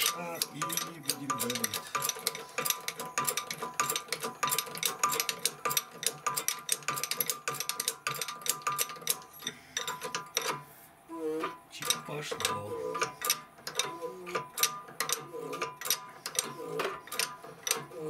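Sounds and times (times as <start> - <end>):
rapid irregular clicking: 0.0 - 10.6, 11.8 - 18.0
shop press pressing bushing: 0.0 - 10.7, 11.4 - 18.0.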